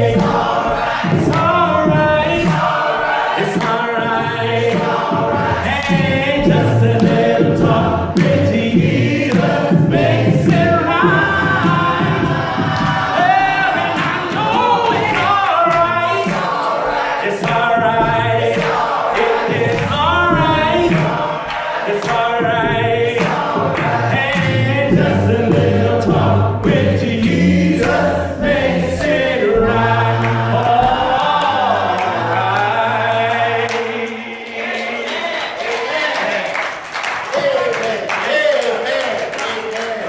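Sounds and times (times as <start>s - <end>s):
choir and congregation singing: 0.0s - 40.0s.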